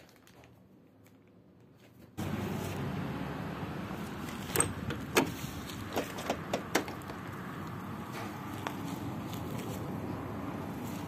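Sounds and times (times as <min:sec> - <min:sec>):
outdoor background hiss: 0:00.7 - 0:11.0.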